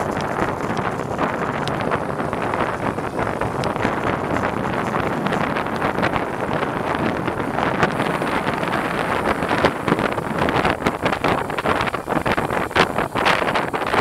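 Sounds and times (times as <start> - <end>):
faint clicks and rattles: 0.0 - 14.0
wind rushing over microphone: 0.0 - 14.0.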